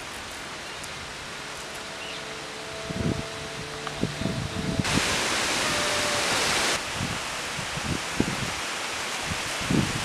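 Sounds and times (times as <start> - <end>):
wind hiss: 0.0 - 10.0.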